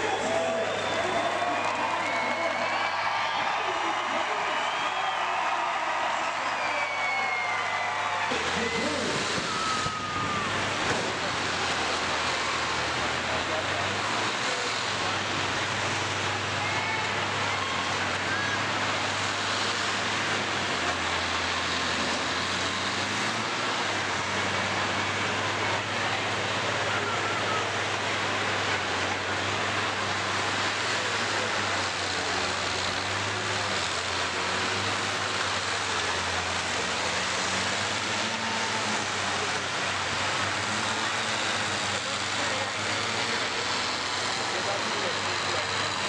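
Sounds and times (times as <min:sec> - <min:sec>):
combine harvester engines droning: 0:00.0 - 0:46.0.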